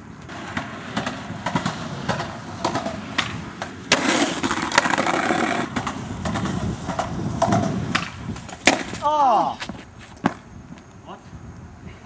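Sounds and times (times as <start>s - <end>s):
skateboard grinding on concrete: 0.0s - 10.7s
skateboard clacks: 0.2s - 10.8s
skateboard knocks: 0.2s - 10.8s.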